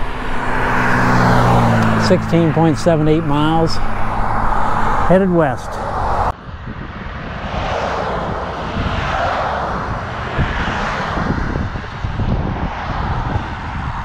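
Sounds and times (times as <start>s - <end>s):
road traffic: 0.0s - 14.0s
vehicle passing close by: 0.0s - 14.0s
wind on microphone: 0.0s - 14.0s.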